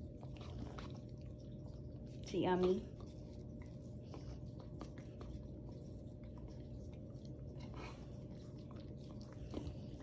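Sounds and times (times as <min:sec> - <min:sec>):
dog licking and chewing: 0:00.0 - 0:10.0.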